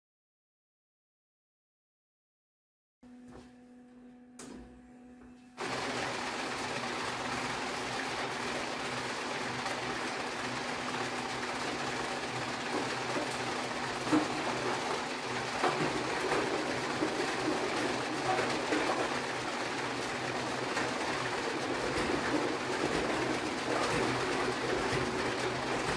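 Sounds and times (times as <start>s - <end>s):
sorting machine humming: 3.1s - 25.9s.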